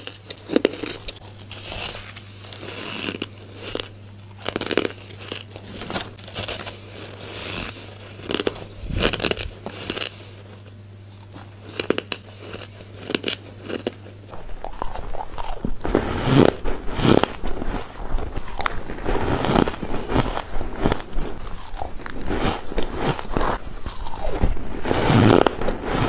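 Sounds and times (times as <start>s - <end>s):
ice chunks being chewed: 0.0s - 26.0s.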